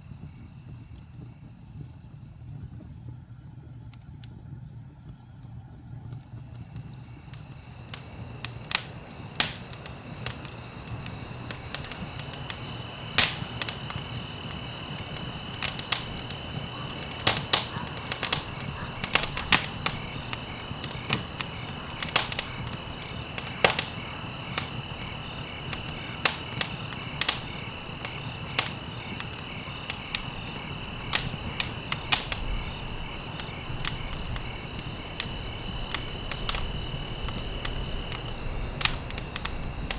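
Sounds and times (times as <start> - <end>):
wood fire crackling: 0.0 - 39.9
insect trill: 6.0 - 39.9.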